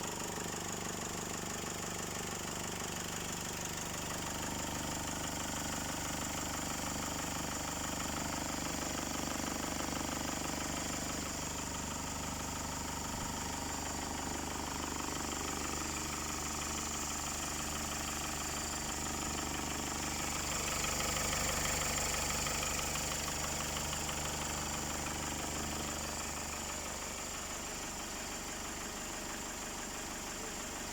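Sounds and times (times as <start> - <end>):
car engine idling: 0.0 - 30.9.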